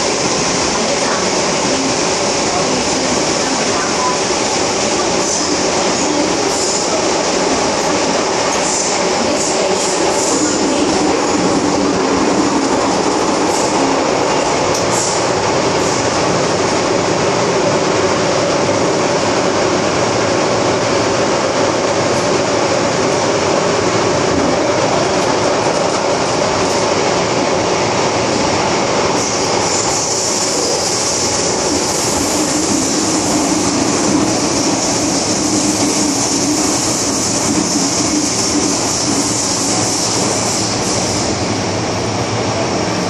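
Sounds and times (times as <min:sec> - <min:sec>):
train rumble and rail noise: 0:00.0 - 0:43.0.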